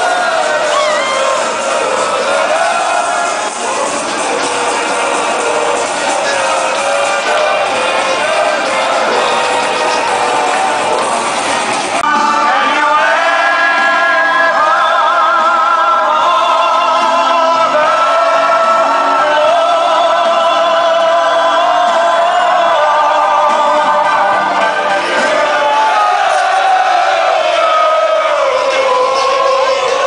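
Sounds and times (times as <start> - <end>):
loud music with singing: 0.0 - 30.0.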